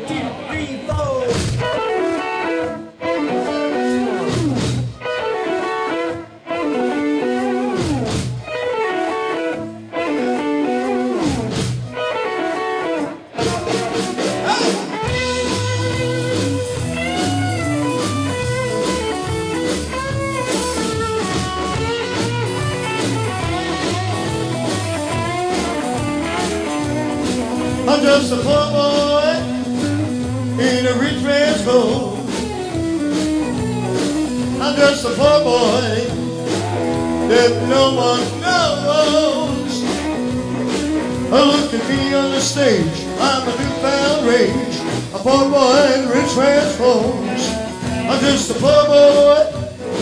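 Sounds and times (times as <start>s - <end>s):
electric guitar riffs: 0.0s - 50.0s
rock band playing groove: 0.0s - 50.0s.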